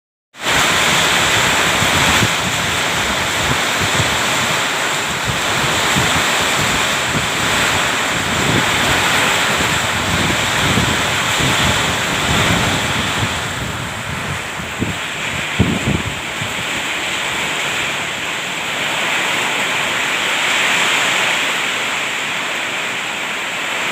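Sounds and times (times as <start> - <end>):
heavy rain pouring: 0.3 - 23.9
wind buffeting microphone: 0.4 - 21.7.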